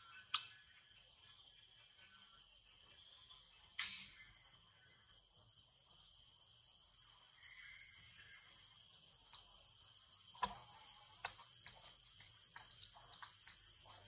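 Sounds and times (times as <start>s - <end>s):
shrill insect chorus: 0.0s - 14.0s.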